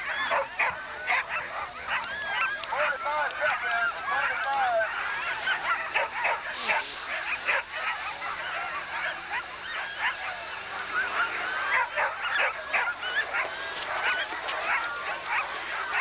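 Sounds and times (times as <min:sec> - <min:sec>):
sled dogs yelping and howling: 0:00.0 - 0:16.0.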